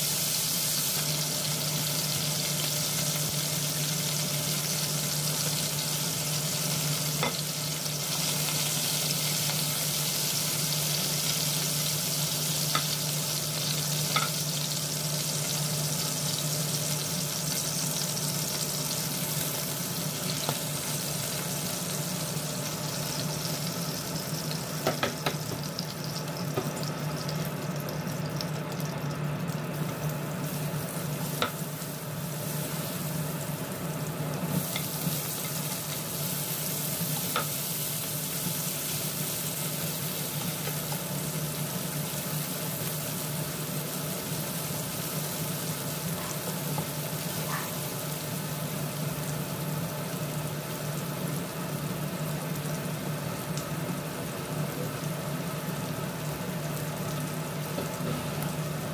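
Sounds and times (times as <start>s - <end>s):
meat sizzling in hot oil: 0.0s - 58.9s.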